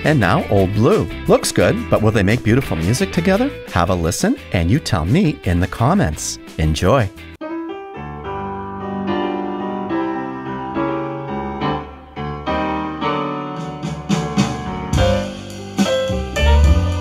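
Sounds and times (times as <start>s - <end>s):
piano music from loudspeaker: 0.0s - 17.0s.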